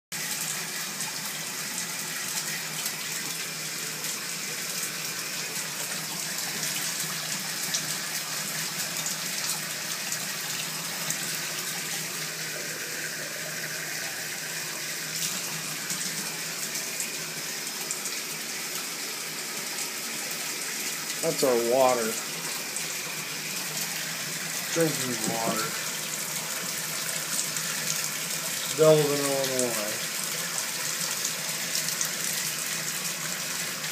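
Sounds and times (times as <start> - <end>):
faucet water splashing into tub: 0.1 - 33.9.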